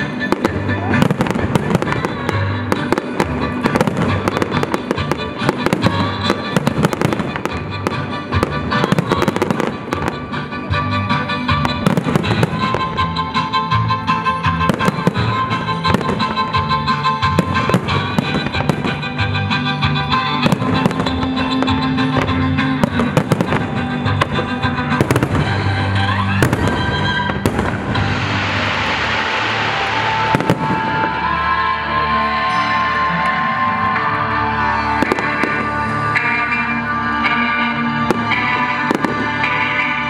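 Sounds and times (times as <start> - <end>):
music playing: 0.0 - 40.0.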